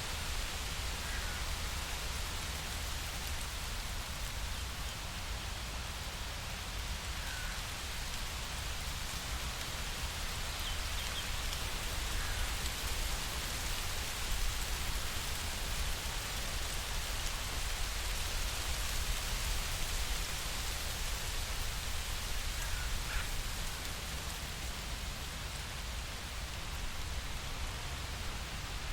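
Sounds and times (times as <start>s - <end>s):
steady rainfall hiss: 0.0s - 28.9s.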